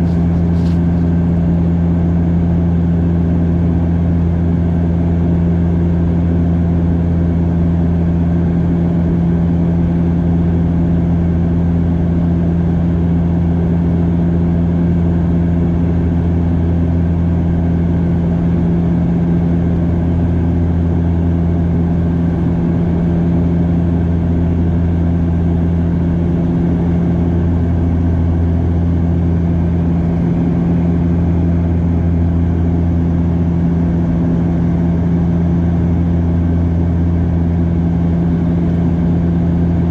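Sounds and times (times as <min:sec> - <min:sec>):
turboprop engines droning in cabin: 0:00.0 - 0:39.9.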